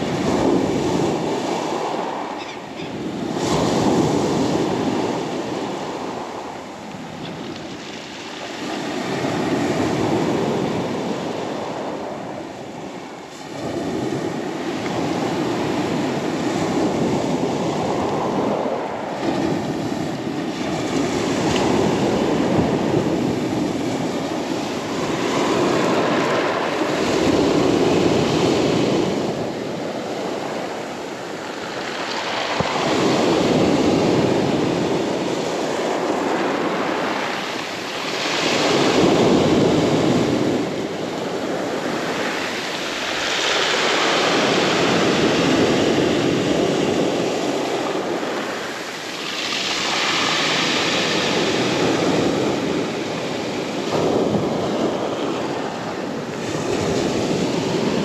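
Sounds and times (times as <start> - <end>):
waves breaking on pebble beach: 0.0 - 58.0.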